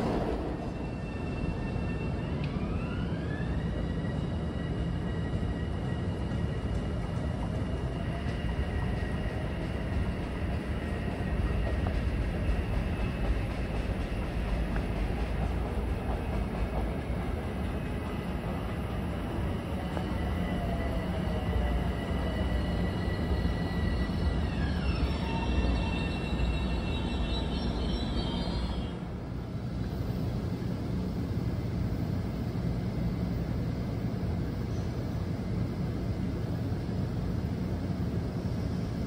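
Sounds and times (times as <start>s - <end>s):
electric train motor whine: 0.0s - 39.0s
wheels rumbling on rails: 0.0s - 39.0s.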